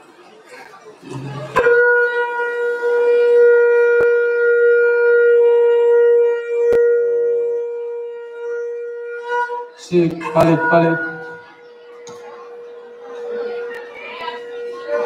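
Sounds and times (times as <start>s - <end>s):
long steady horn-like tone: 1.4s - 15.0s.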